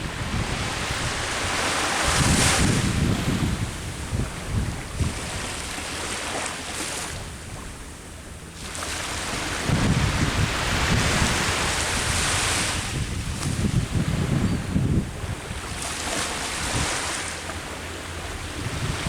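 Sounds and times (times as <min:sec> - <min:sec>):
sea waves breaking on shore: 0:00.0 - 0:19.0
wind buffeting microphone: 0:00.0 - 0:19.0.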